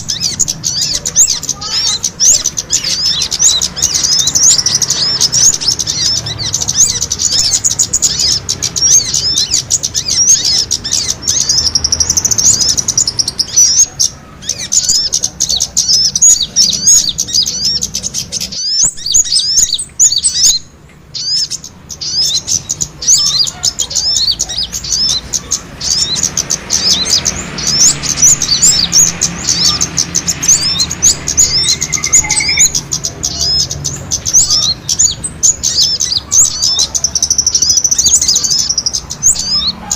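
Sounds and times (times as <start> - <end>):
small songbirds chattering: 0.0 - 39.9.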